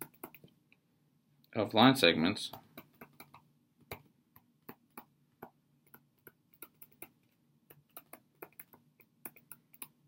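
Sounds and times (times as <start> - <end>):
stylus tapping on screen: 0.0 - 0.6, 2.5 - 10.0.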